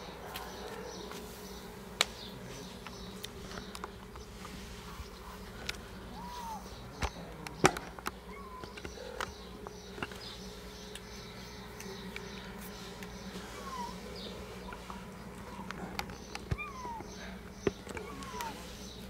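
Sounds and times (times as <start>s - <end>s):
kittens crunching dry kibble: 0.0s - 19.0s
steady low hum: 0.0s - 19.0s.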